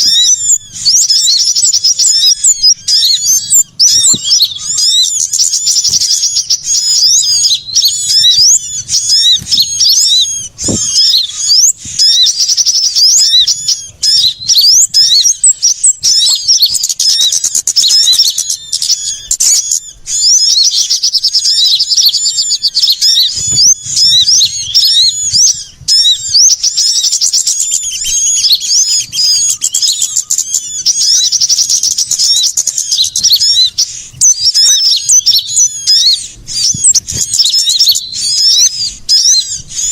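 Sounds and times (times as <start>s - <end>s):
small songbirds chirping and trilling: 0.0s - 39.9s.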